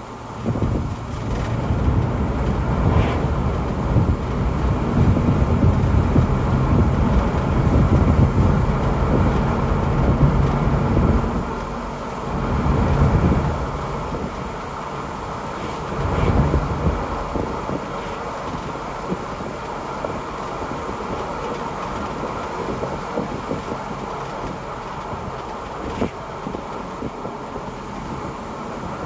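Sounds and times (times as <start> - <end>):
car engine running: 0.0 - 29.0
tyre and road noise: 0.0 - 29.0.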